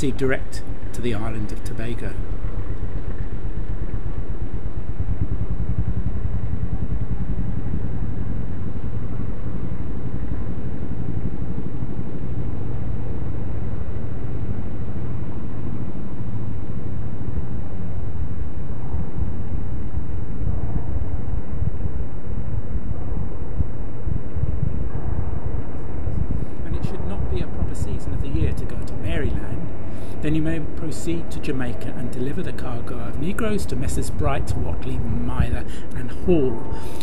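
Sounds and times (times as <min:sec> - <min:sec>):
low rumbling noise: 0:00.0 - 0:37.0.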